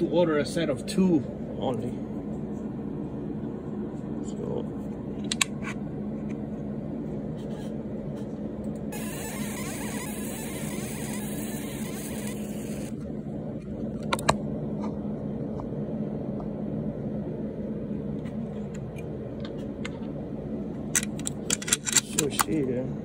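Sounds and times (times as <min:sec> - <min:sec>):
motor hum: 0:01.3 - 0:21.6.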